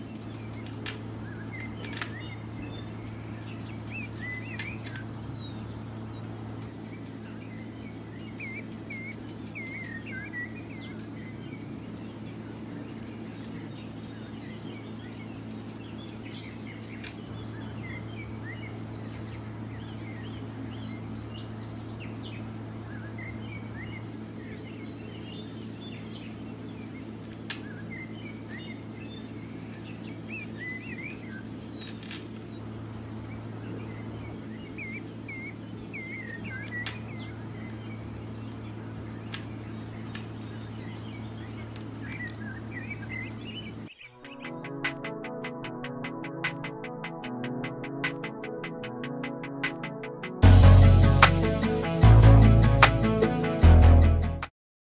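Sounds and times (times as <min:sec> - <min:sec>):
small birds chirping: 0:00.0 - 0:48.8
steady low hum: 0:00.0 - 0:54.0.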